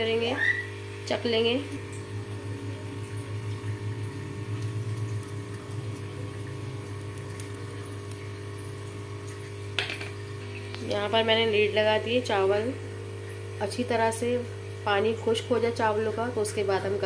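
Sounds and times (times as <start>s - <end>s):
low hum: 0.0s - 17.0s
water boiling in a pan: 0.0s - 17.0s.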